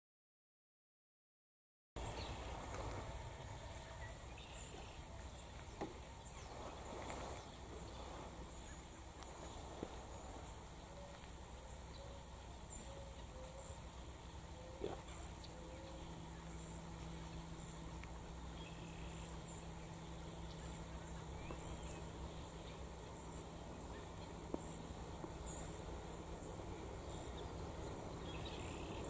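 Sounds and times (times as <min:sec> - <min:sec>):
lower bird calls: 0:02.0 - 0:29.0
steady low rumble: 0:02.0 - 0:29.0.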